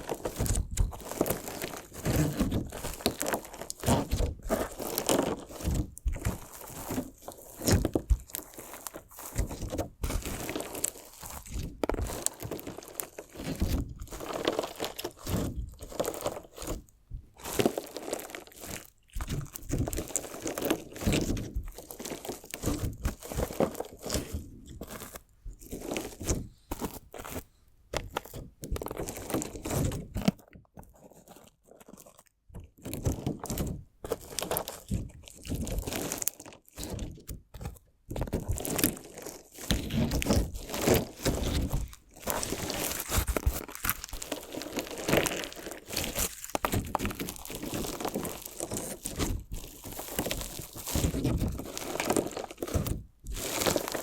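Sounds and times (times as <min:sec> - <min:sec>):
crunchy slime crunching by hand: 0:00.0 - 0:54.0.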